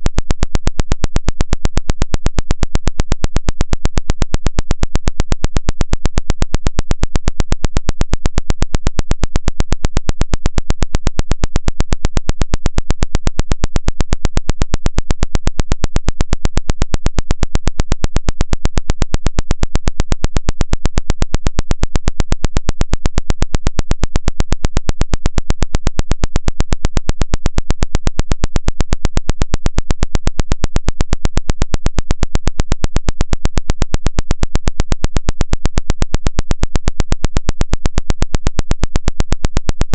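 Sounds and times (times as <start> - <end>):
pulsing electronic buzz: 0.0 - 39.9.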